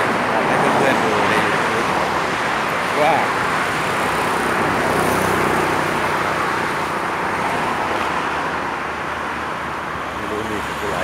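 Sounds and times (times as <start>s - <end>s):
highway traffic passing: 0.0s - 11.0s.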